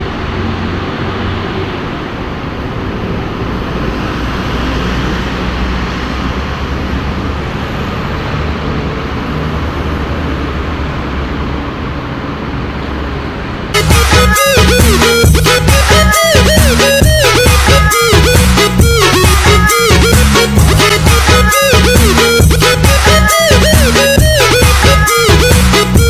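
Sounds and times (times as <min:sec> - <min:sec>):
diesel bus engine droning: 0:00.0 - 0:26.0
road noise: 0:00.0 - 0:26.0.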